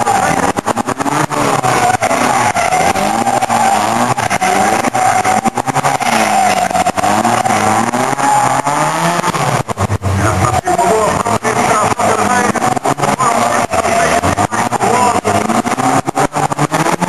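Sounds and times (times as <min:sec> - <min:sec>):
tyres squealing: 0:00.0 - 0:09.6, 0:10.2 - 0:17.0
car engine revving: 0:00.0 - 0:17.0.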